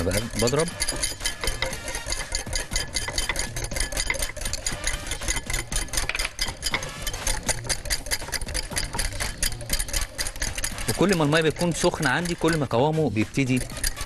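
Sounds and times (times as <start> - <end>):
whisk clicking against glass bowl: 0.0 - 14.0.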